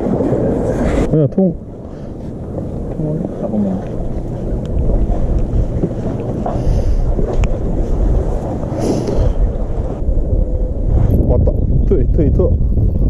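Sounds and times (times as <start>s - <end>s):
sea waves washing: 0.0s - 11.4s
wind buffeting microphone: 0.0s - 13.0s.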